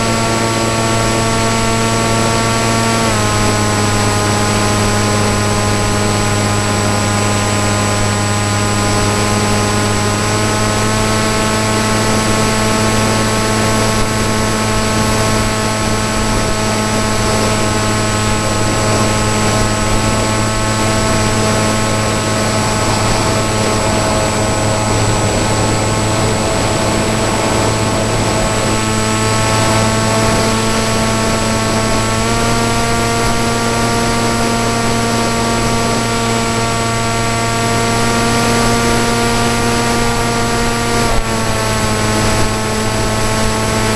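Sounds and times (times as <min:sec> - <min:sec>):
electric motor and propeller drone: 0:00.0 - 0:43.9.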